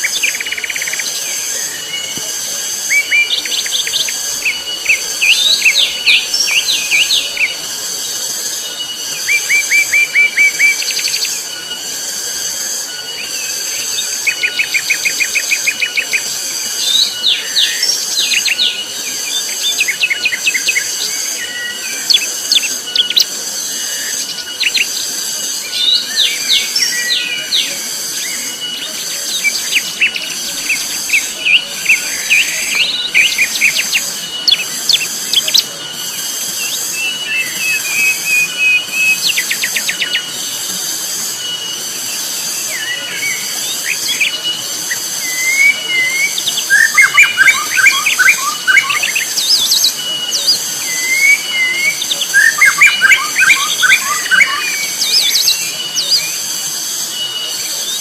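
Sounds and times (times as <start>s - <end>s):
cicadas buzzing loudly: 0.0s - 58.0s
forest birds chirping and whistling: 0.0s - 58.0s.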